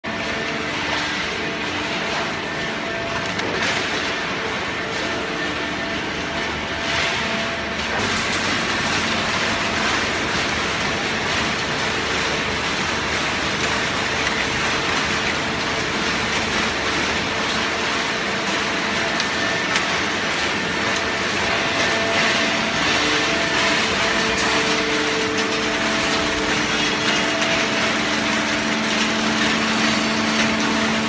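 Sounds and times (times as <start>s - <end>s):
cardboard baler running: 0.0s - 31.0s.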